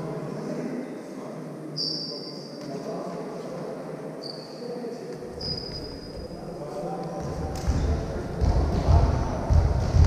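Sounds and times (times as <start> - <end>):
voices echoing in a hall: 0.0 - 10.0.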